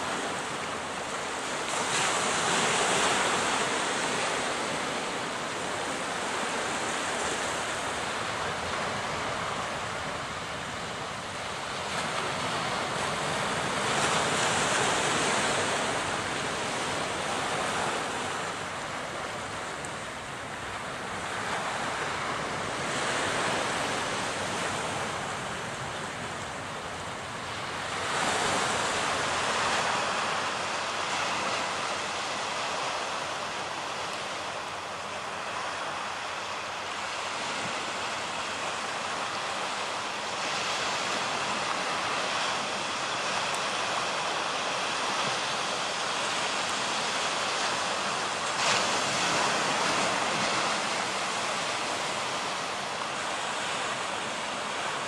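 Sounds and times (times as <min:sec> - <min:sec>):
sea waves on rocky shore: 0:00.0 - 0:55.0.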